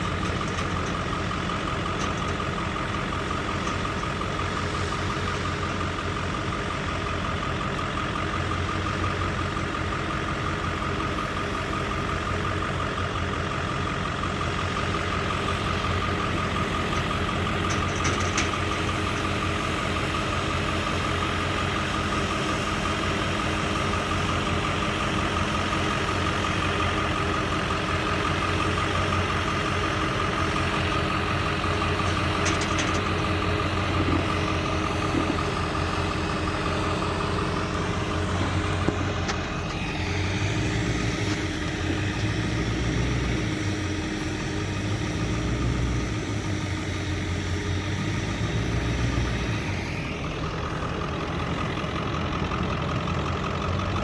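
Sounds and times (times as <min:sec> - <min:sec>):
farm machinery engine running: 0:00.0 - 0:54.0.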